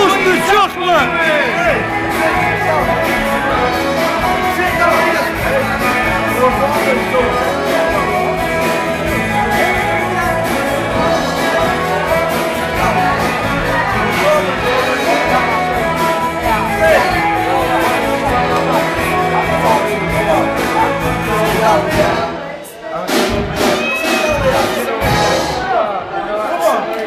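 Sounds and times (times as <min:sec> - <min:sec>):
rock music with singing: 0:00.0 - 0:25.9.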